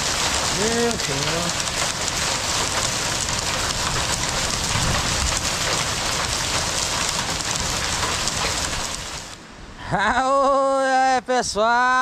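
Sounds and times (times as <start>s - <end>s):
heavy rain pouring: 0.0s - 10.7s.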